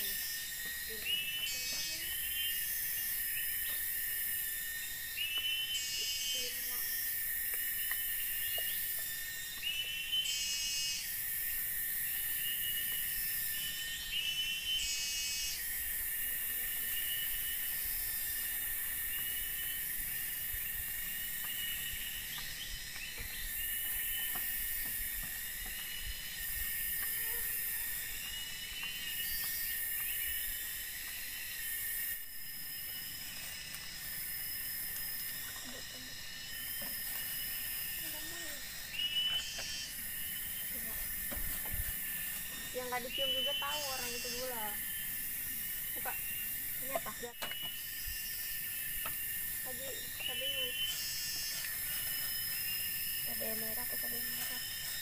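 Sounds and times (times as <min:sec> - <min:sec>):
insect chirping call: 0:00.0 - 0:55.0
insects droning: 0:00.0 - 0:55.0.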